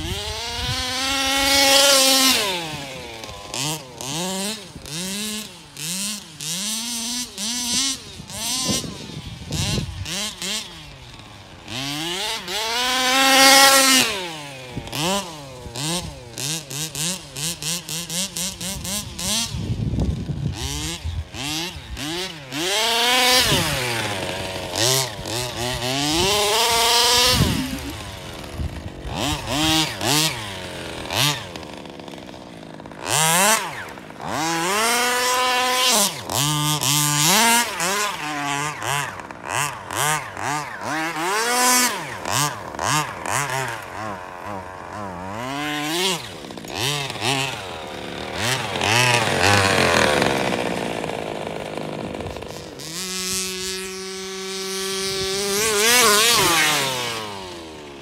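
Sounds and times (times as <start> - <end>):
toy car motor revving: 0.0 - 58.0.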